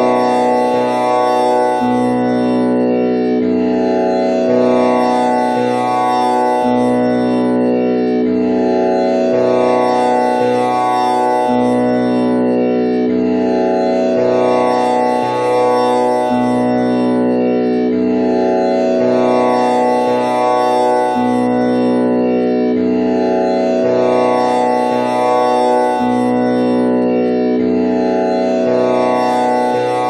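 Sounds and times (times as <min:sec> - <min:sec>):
tanpura drone: 0:00.0 - 0:30.0.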